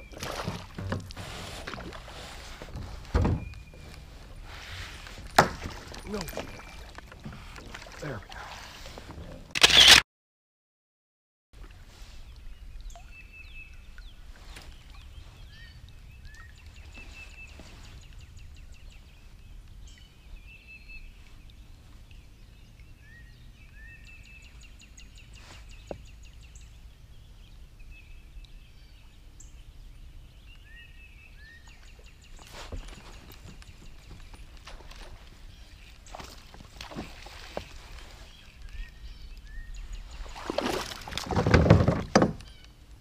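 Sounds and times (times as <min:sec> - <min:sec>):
songbirds trilling and chirping: 0:00.0 - 0:09.4, 0:11.9 - 0:43.0.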